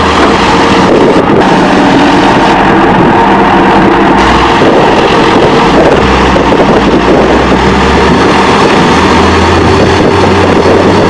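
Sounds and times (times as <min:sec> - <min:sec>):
diesel machinery engines rumbling: 0:00.0 - 0:11.0.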